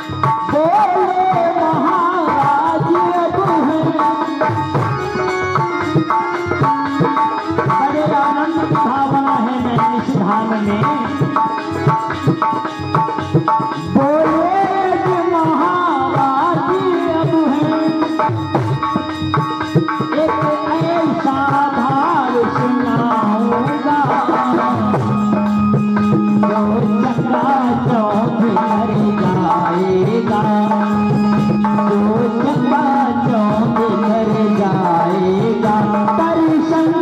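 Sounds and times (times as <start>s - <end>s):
man singing devotional song: 0.0s - 37.0s
tabla strokes: 0.0s - 37.0s.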